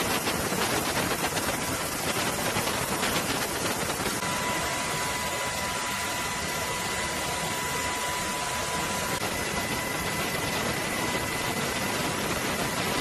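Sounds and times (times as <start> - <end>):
high steady whine: 0.0 - 13.0
steady noise: 0.0 - 13.0.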